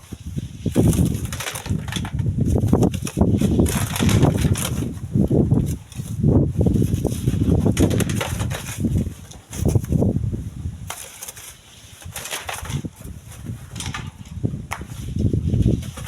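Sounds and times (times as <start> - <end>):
gusty wind buffeting microphone: 0.0 - 11.0, 11.7 - 16.0
light crackling and rustling: 0.0 - 16.0.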